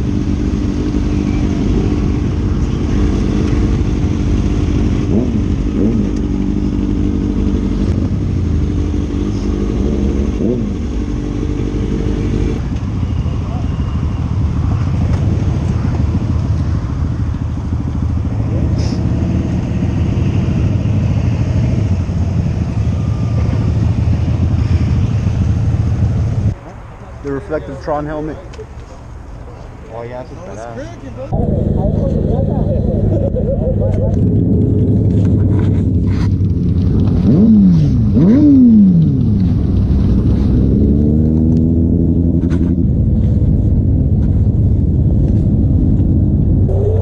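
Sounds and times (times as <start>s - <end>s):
faint motorcycle revs: 0.0s - 26.6s, 31.3s - 47.0s
motorcycle engines rumbling: 0.0s - 47.0s.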